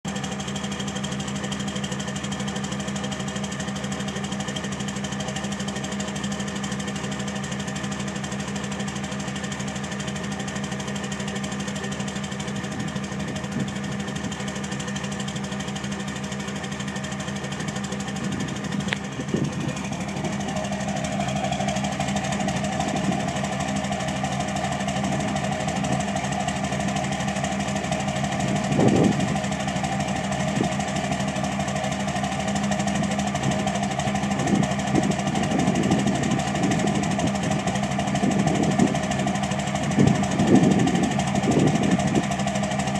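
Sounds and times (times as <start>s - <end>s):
diesel engine idling roughly: 0.0s - 42.9s.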